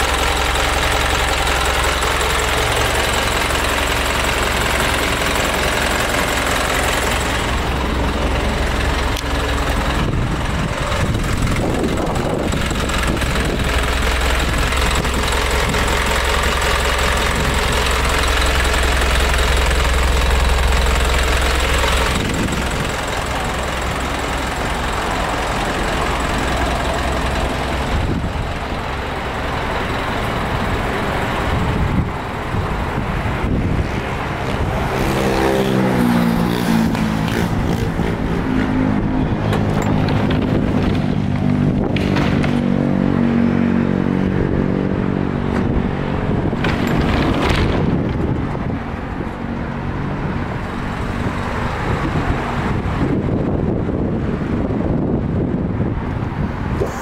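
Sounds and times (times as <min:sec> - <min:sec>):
diesel engine idling: 0:00.0 - 0:57.0
passing traffic: 0:00.0 - 0:57.0.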